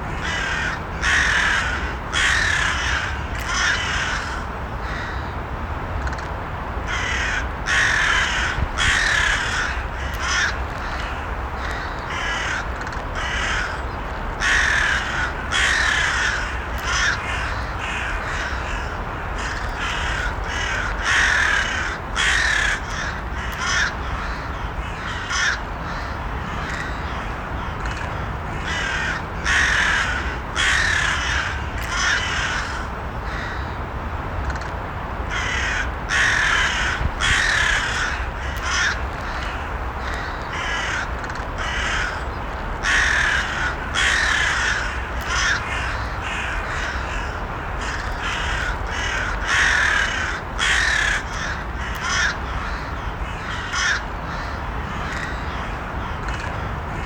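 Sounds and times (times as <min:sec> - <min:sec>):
low background noise: 0:00.0 - 0:57.0
crows cawing: 0:00.1 - 0:05.3, 0:06.9 - 0:33.8, 0:35.3 - 0:57.0.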